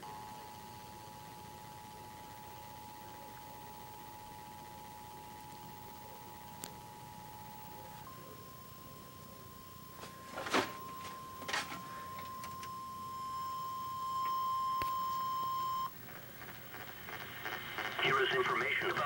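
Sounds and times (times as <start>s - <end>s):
high alarm beep: 0.3s - 15.9s.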